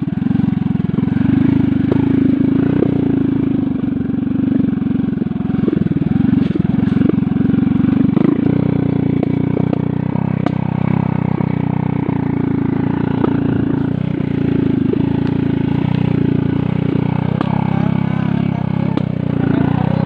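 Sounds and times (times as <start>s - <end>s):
knocks and rattles of bike: 0.0s - 20.0s
motorcycle engine running: 0.0s - 20.0s.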